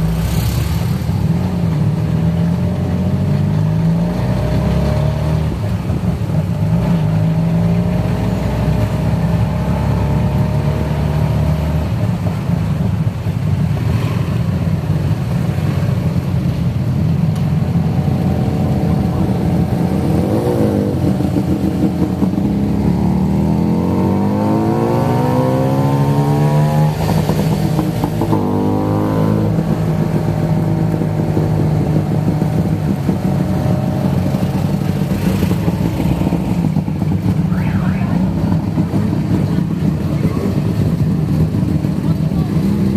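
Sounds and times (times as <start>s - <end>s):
tuk-tuk engine running: 0.0s - 42.9s.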